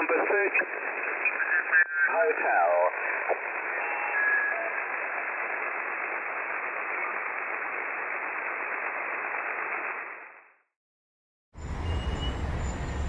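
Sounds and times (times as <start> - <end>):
radio receiver band noise hiss: 0.0 - 10.5.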